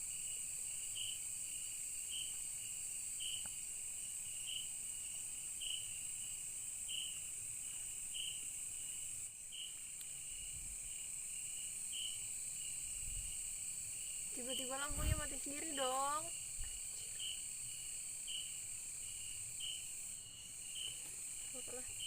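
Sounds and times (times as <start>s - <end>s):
insect chirping: 0.0s - 22.0s
insects droning: 0.0s - 22.0s.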